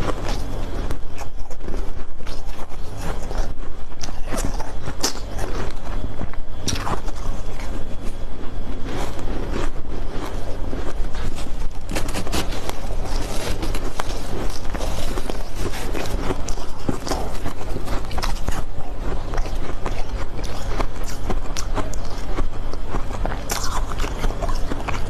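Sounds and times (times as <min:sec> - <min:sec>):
chewing ice crunches: 0:00.0 - 0:25.0.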